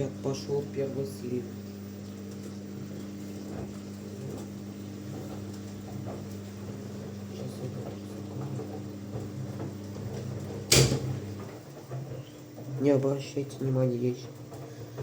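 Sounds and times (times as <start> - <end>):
drain pump humming: 0.0 - 15.0.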